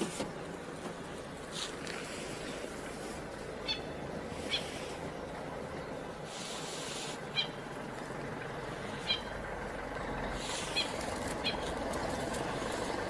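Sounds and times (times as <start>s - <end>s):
hissing rustles: 0.0s - 9.6s, 10.2s - 13.0s
steady low rumble: 0.4s - 13.0s.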